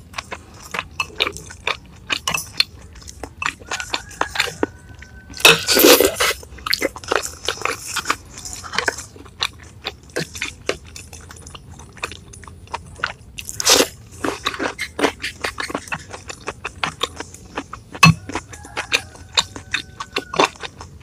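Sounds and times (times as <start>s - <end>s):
close chewing and crunching food: 0.0s - 21.0s.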